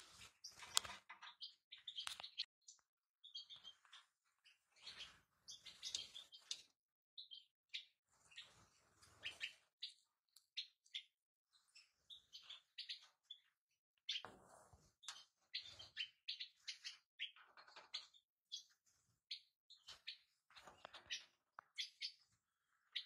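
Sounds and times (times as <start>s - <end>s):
finches chirping: 0.2s - 23.0s.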